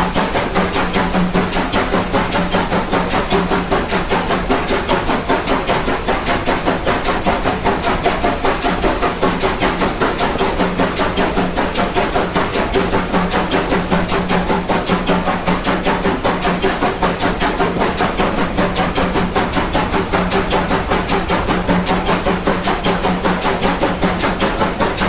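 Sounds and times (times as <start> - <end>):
steam locomotive exhaust chuffing: 0.0 - 25.0.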